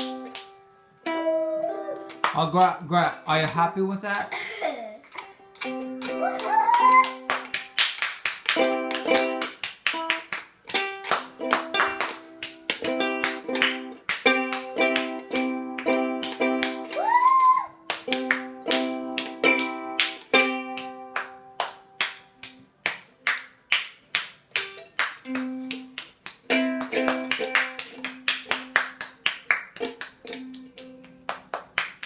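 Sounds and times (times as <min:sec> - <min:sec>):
ukulele strumming: 0:00.0 - 0:03.7, 0:05.1 - 0:23.4, 0:24.0 - 0:31.6.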